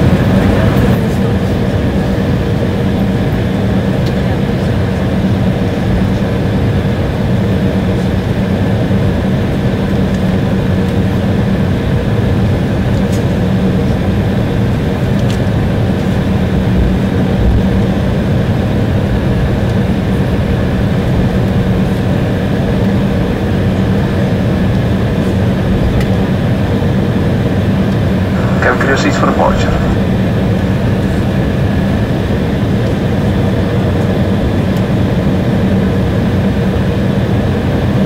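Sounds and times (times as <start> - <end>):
jet engines humming in cabin: 0.0 - 38.0.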